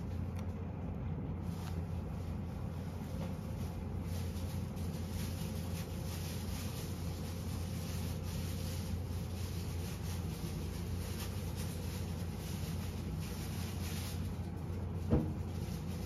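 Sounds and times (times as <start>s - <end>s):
soft rubbing sounds: 1.3s - 16.0s.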